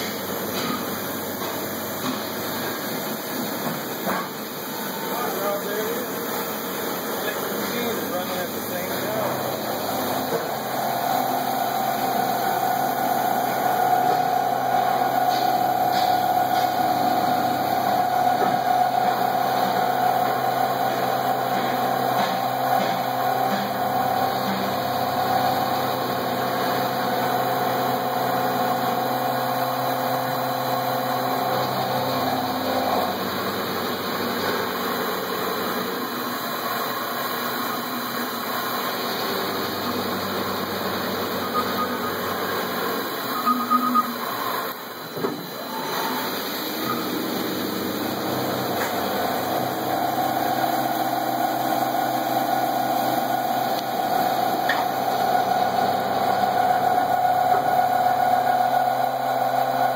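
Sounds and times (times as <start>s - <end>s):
coolant spray hiss: 0.0s - 59.9s
machine whine: 4.6s - 34.0s, 39.1s - 59.9s.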